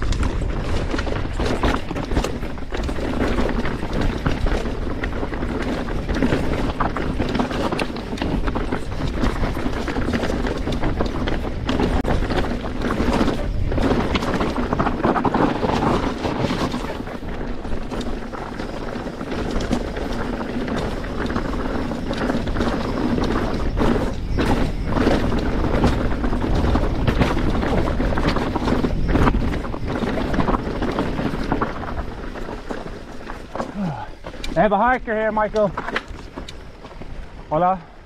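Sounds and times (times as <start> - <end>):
bike rattling and knocking: 0.0 - 38.0
tyres crunching over rocks: 0.0 - 38.0
wind rushing over microphone: 0.0 - 38.0.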